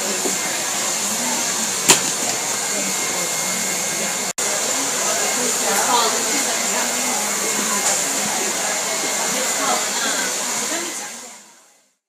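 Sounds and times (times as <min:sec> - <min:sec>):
faint voices: 0:00.0 - 0:11.7
hair dryer running: 0:00.0 - 0:11.7.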